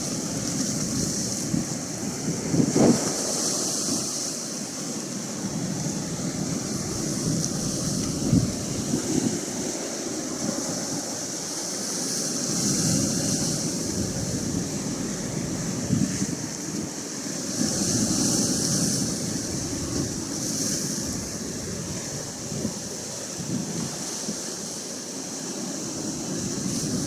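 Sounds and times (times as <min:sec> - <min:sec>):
wind buffeting microphone: 0:00.0 - 0:04.2, 0:05.3 - 0:11.4, 0:12.5 - 0:24.4
ocean waves washing in: 0:00.0 - 0:27.0.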